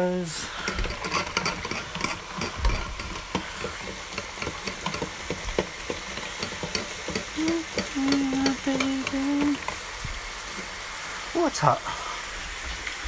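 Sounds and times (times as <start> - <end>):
metal tongs stirring fries: 0.0 - 11.7
fries sizzling in hot oil: 0.0 - 13.0.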